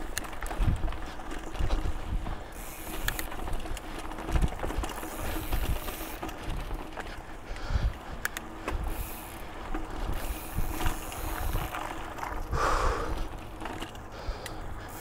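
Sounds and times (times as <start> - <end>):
bike chain and frame rattling: 0.0 - 15.0
tyres rolling on dirt: 0.0 - 15.0.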